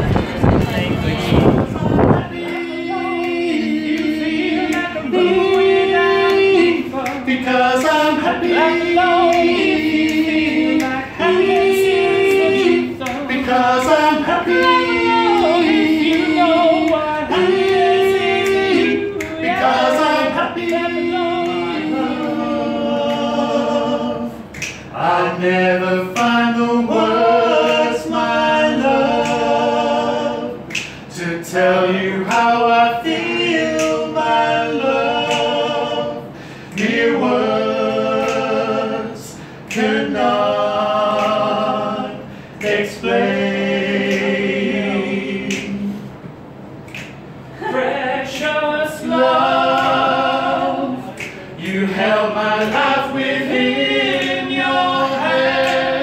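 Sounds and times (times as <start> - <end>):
men singing in close harmony: 1.4 - 46.2, 47.5 - 56.0.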